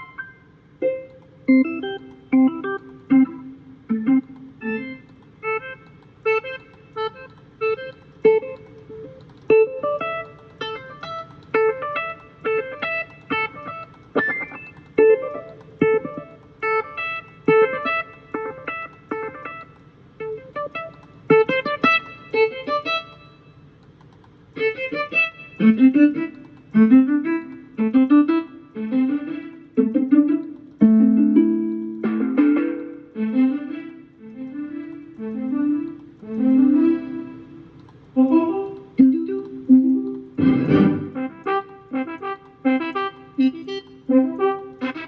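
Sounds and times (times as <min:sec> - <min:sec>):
synthesized keyboard notes: 0:00.0 - 0:23.6, 0:24.6 - 0:38.4, 0:39.0 - 0:45.0.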